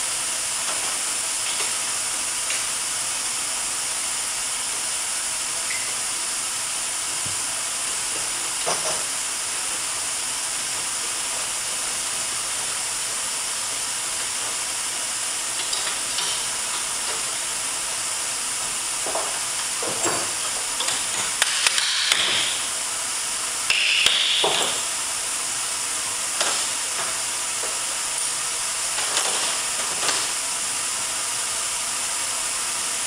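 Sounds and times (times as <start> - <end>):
steam hissing: 0.0 - 32.8.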